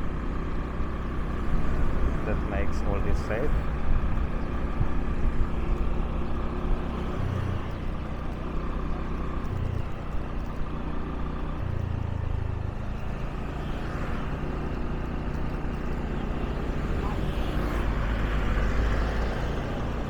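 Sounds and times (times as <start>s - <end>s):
motorbike engine hum: 0.0s - 20.0s.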